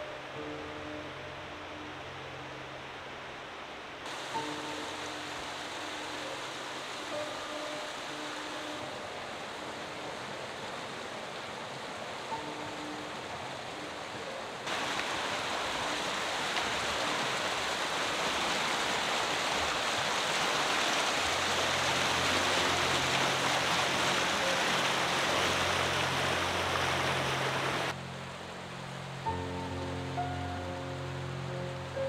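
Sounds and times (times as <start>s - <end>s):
mountain stream rushing: 0.0s - 32.0s
soft background music: 0.0s - 32.0s.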